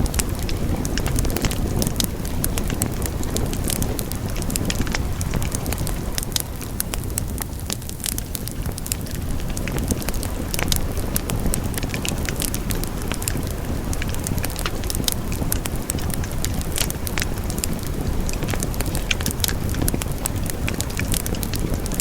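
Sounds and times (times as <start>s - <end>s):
burning wood crackling and popping: 0.0s - 22.0s
flames rumbling: 0.0s - 22.0s.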